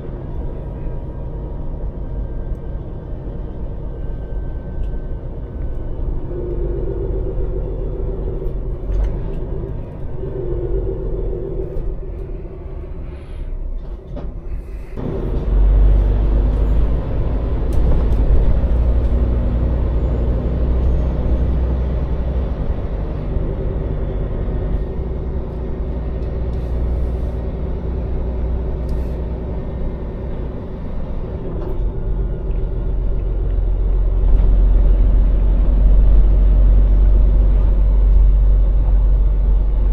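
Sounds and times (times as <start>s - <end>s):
lorry diesel engine: 0.0s - 39.9s
road noise: 0.0s - 39.9s.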